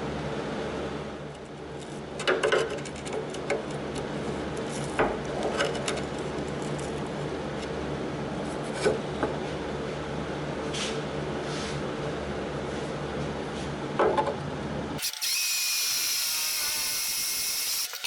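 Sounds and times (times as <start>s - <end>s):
low shop hum: 0.0s - 18.0s.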